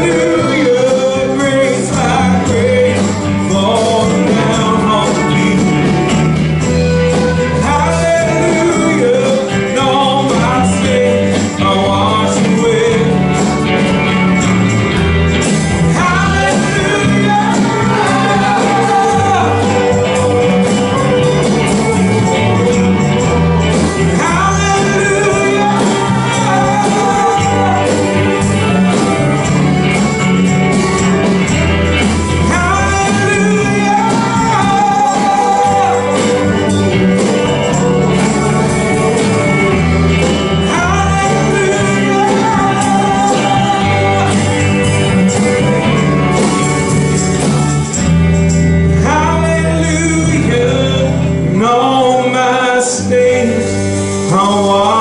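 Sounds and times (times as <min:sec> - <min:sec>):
bass guitar: 0:00.0 - 0:55.0
electric guitar: 0:00.0 - 0:55.0
person singing: 0:00.0 - 0:55.0.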